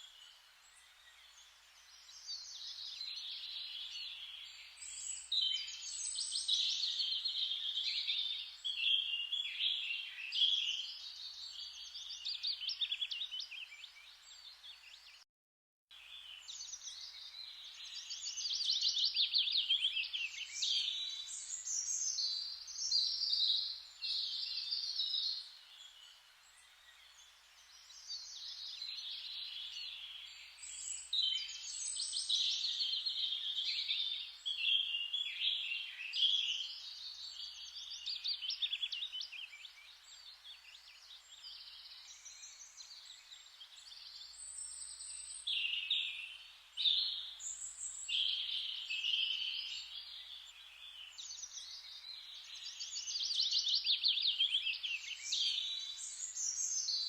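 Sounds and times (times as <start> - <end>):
songbirds chirping and trilling: 0.0 - 15.2, 15.9 - 57.0
steady hiss like rustling leaves: 0.0 - 15.2, 15.9 - 57.0.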